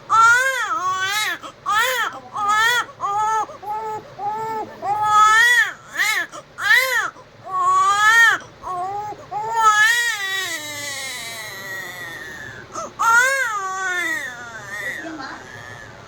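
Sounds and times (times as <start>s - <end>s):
baby crying: 0.1s - 16.0s.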